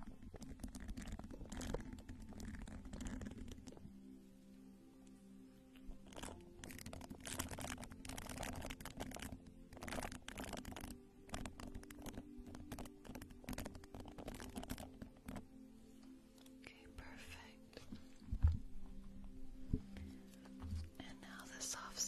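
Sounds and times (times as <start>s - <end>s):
quiet background music: 0.0s - 22.0s.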